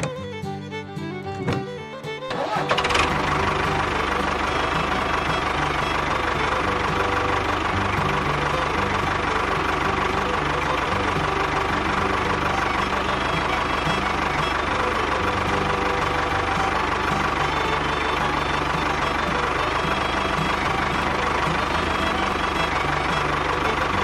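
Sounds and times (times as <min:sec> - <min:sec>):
small engine idling with knocking: 0:02.3 - 0:24.0.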